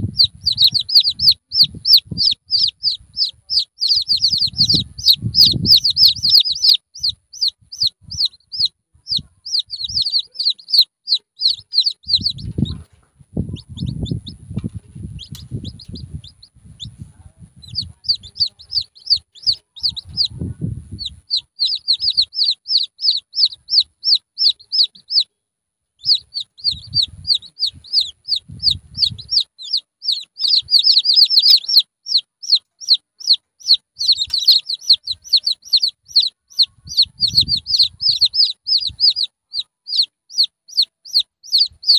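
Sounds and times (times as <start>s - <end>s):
chicks peeping: 0.0s - 25.3s, 26.0s - 41.9s.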